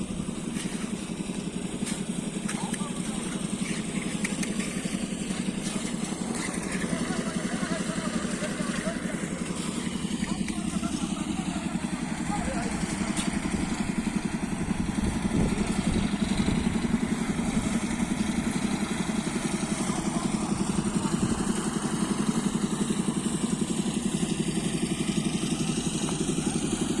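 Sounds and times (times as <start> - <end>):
small engine running: 0.0 - 27.0.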